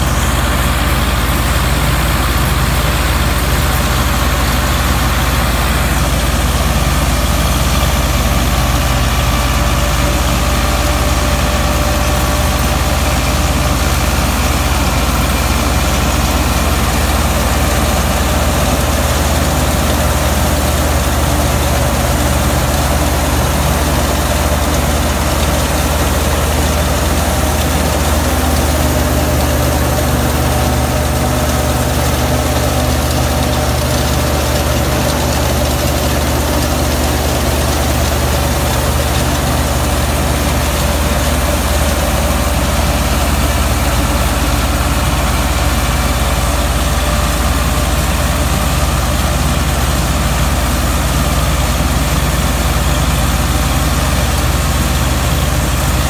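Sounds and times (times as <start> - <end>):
tractor diesel engine drone: 0.0 - 56.0.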